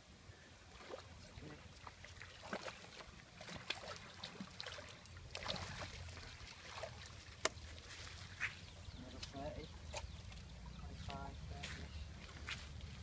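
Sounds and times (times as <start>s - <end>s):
water splashing: 0.7s - 13.0s.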